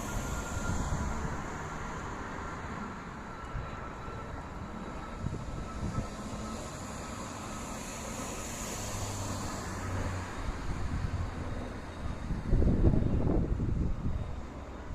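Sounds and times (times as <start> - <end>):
jet engines rushing: 0.0 - 14.9.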